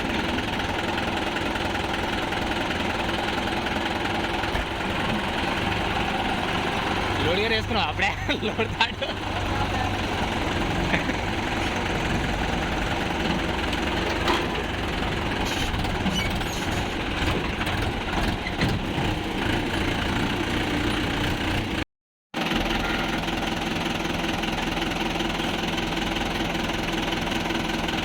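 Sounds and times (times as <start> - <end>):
diesel engine idling: 0.0 - 21.8, 22.4 - 28.0.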